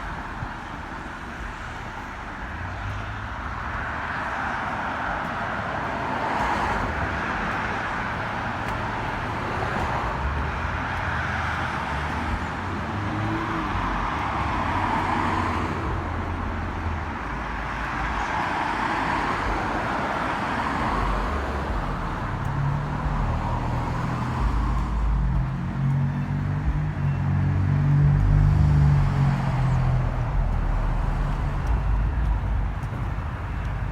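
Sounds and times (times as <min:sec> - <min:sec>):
cars passing with tyre hiss: 0:00.0 - 0:33.9
low engine rumble: 0:06.8 - 0:33.9.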